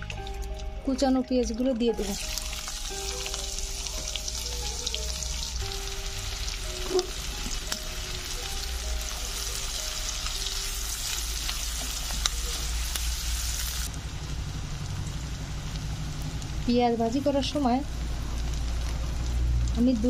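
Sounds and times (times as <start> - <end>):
onions sizzling in oil: 2.0 - 20.0.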